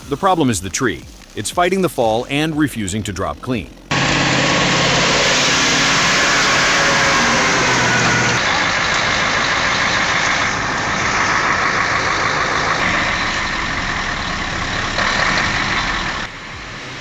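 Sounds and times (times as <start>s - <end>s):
heavy truck engine running: 1.1s - 17.0s.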